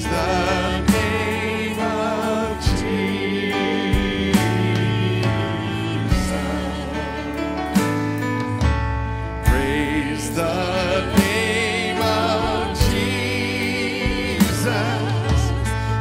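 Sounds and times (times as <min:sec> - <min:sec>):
singers with vibrato: 0:00.0 - 0:07.5, 0:09.5 - 0:16.0
drum kit beat: 0:00.0 - 0:16.0
keyboard: 0:00.0 - 0:16.0.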